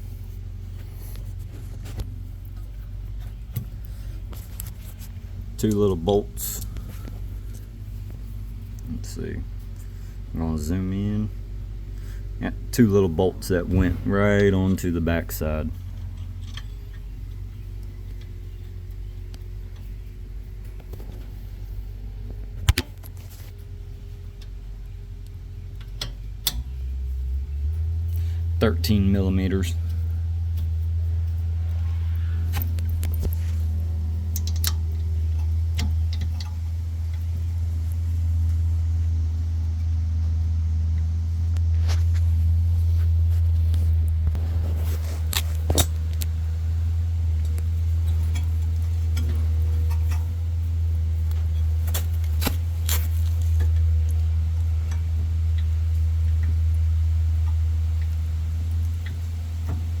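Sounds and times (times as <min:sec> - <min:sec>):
steady low hum: 0:00.0 - 1:00.0.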